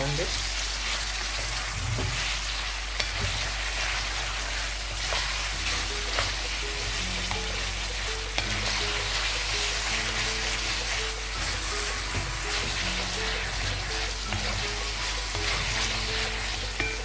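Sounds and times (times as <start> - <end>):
meat and vegetables sizzling in oil: 0.0 - 17.0
soft background music: 0.0 - 17.0.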